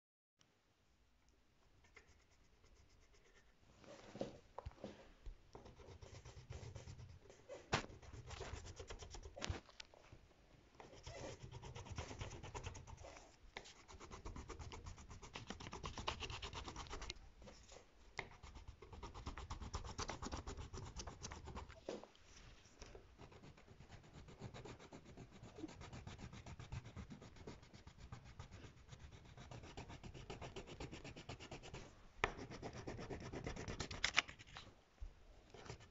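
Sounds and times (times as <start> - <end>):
pencil scratching on paper: 1.8 - 4.2, 5.6 - 9.5, 10.8 - 21.9, 23.2 - 34.5, 35.5 - 35.9.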